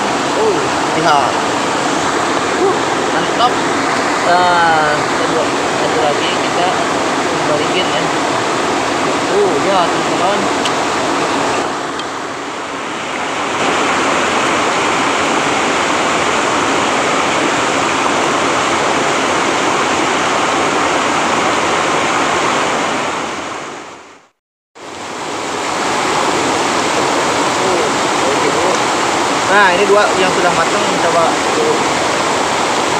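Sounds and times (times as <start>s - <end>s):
small waterfall rushing: 0.0s - 32.9s.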